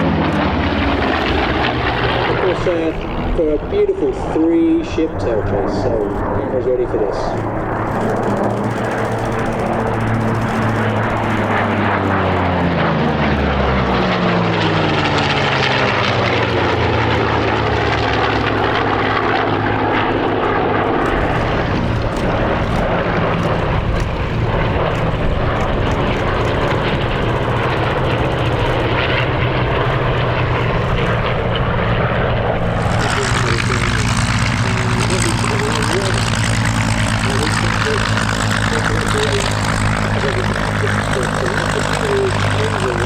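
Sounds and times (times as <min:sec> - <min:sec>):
propeller aircraft engines droning: 0:00.0 - 0:43.0.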